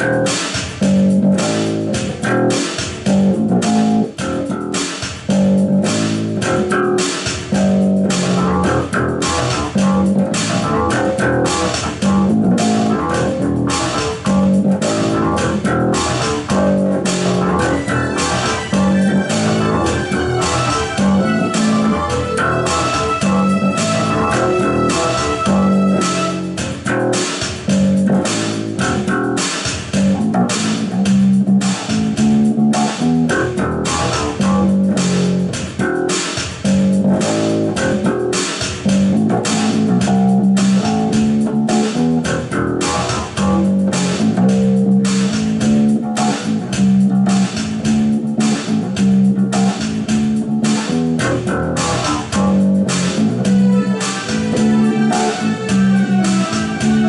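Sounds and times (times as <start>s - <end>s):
electric bass guitar riff: 0.0s - 57.0s
steady drum beat: 0.0s - 57.0s.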